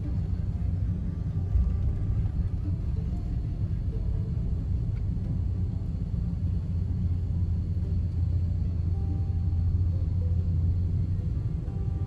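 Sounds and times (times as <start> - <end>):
road and engine rumble in vehicle: 0.0 - 12.0.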